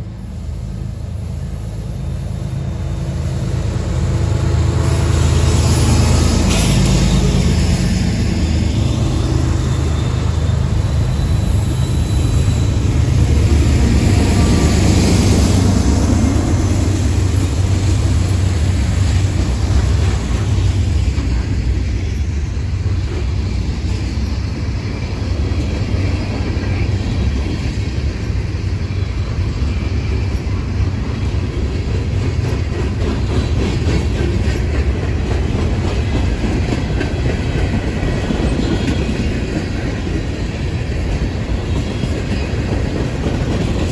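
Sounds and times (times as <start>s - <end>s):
train rumbling past: 0.0s - 43.9s
wheels clattering on rails: 3.1s - 43.9s.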